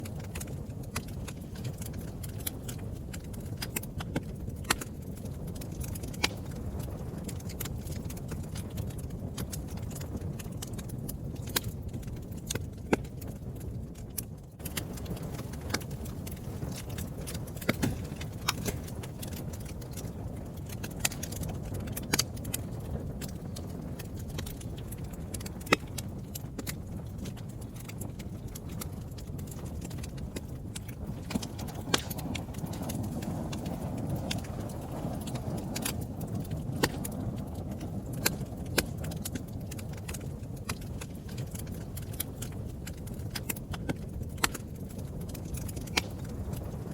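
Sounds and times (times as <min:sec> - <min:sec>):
fire crackling and popping: 0:00.0 - 0:46.9
steady low rumble: 0:00.0 - 0:46.9.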